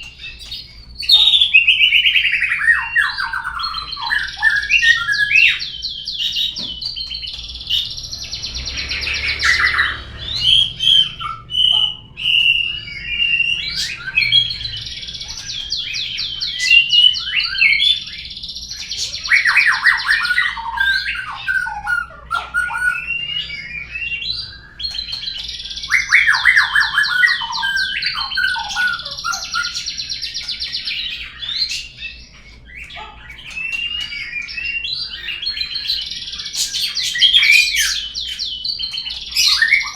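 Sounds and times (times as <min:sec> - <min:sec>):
recorded bird song trills: 0:00.0 - 0:39.9.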